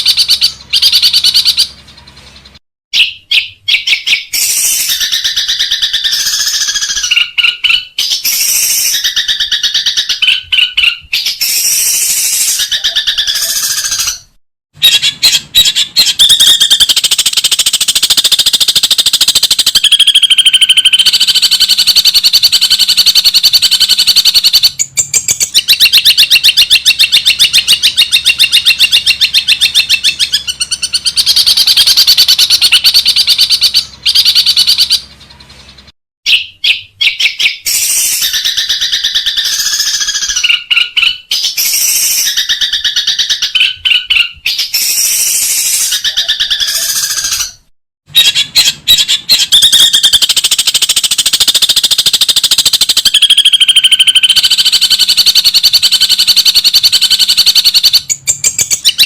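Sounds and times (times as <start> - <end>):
shrike singing chattering song: 0.0 - 59.0.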